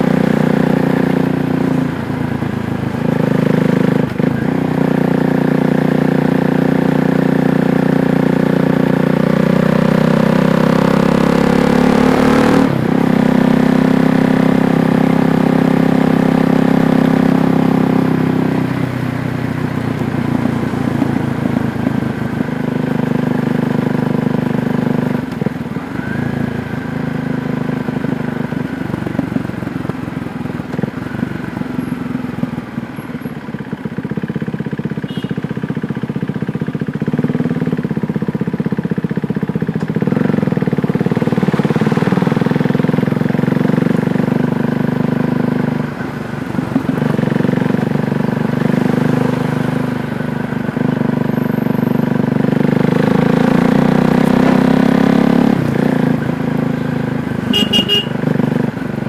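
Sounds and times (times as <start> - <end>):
motorcycle engine under load: 0.0 - 59.0.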